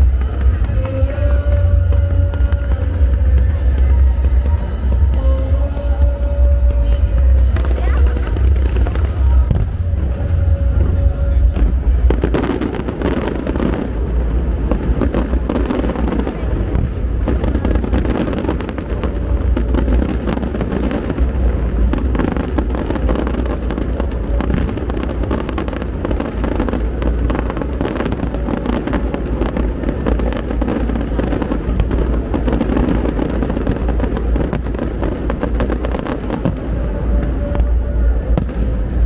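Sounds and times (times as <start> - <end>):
fireworks crackling: 0.0 - 39.0
low rumble of firework bursts: 0.0 - 39.0.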